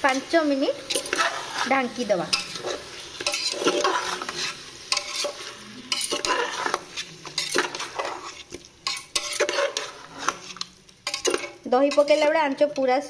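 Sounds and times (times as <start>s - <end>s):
food sizzling: 0.0s - 13.0s
metal spoon scraping pot: 0.8s - 12.9s.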